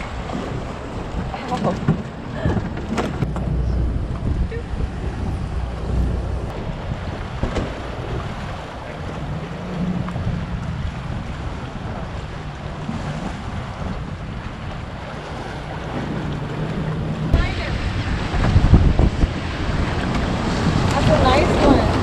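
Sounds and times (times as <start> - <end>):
water splashing against boat hull: 0.0 - 22.0
wind buffeting microphone: 0.0 - 22.0.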